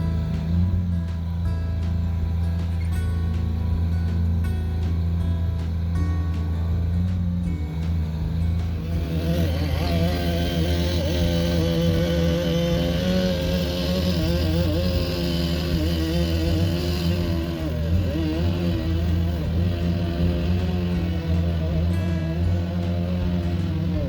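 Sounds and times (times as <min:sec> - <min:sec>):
engine-driven machine running: 0:00.0 - 0:24.0.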